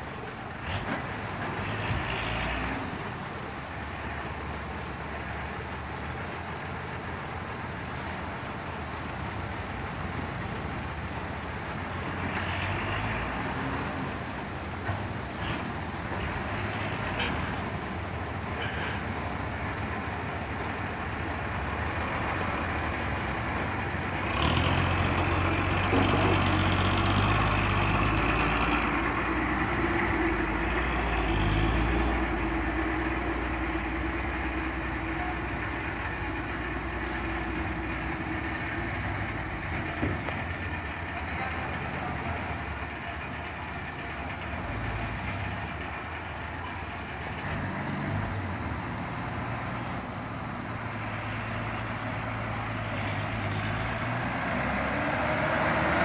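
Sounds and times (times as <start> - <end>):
truck engines running: 0.0 - 56.0.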